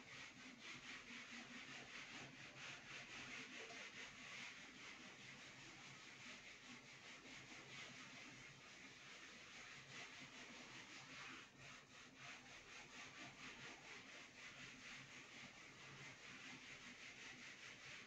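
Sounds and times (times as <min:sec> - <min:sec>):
eraser rubbing on whiteboard: 0:00.0 - 0:18.0.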